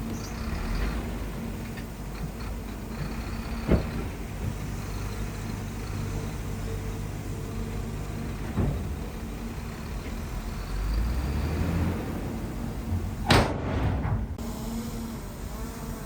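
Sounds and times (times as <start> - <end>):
bulldozer diesel engine running: 0.0 - 14.5.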